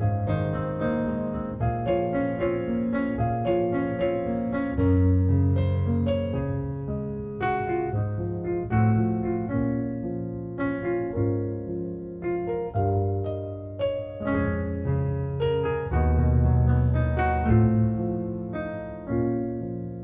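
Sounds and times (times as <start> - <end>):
slow solo piano: 0.0 - 20.0.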